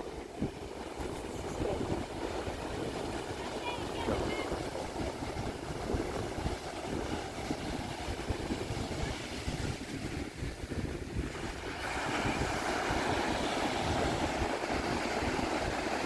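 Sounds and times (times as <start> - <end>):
sea surf breaking on beach: 0.0 - 16.0
wind buffeting microphone: 0.0 - 16.0.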